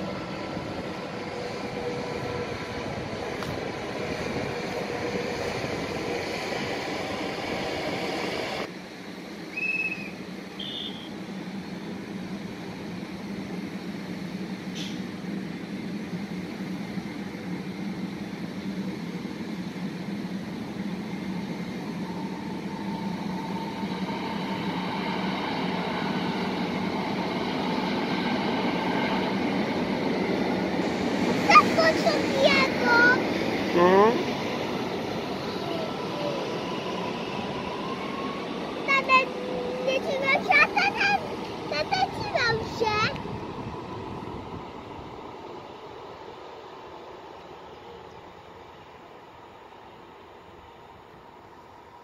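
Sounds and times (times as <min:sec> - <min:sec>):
second train approaching: 0:00.0 - 0:52.0
train rumbling on track: 0:00.0 - 0:52.0.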